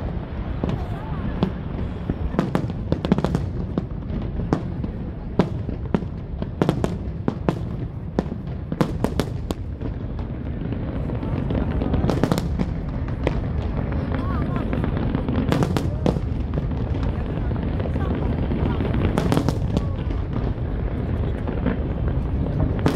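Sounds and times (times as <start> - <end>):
fireworks bangs and crackles: 0.0 - 22.9.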